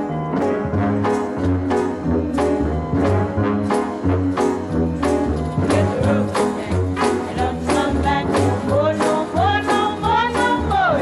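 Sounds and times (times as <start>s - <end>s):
upbeat music with bass: 0.0s - 11.0s.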